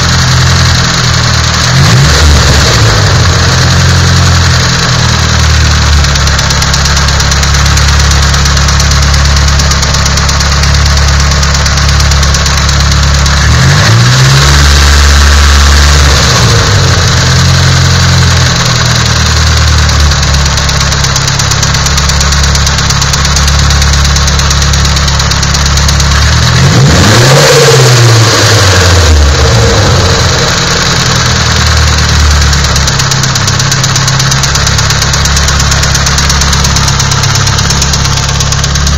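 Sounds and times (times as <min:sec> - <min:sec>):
car engine idling with knocking: 0:00.0 - 0:38.9
engine revving: 0:00.0 - 0:38.9.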